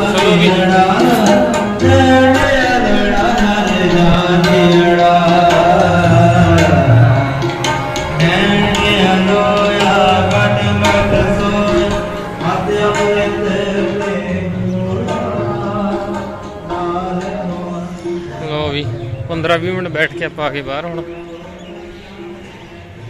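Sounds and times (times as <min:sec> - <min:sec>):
person singing a hymn: 0:00.0 - 0:18.5
harmonium: 0:00.0 - 0:23.0
tabla drumming: 0:00.0 - 0:23.0.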